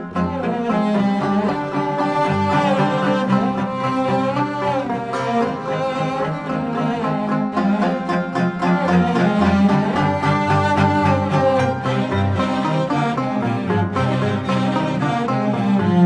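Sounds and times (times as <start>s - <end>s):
string instrument music: 0.0s - 16.0s.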